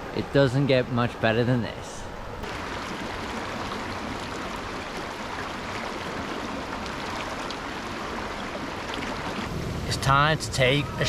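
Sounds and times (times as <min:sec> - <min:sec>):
river running over rocks: 0:00.0 - 0:11.0.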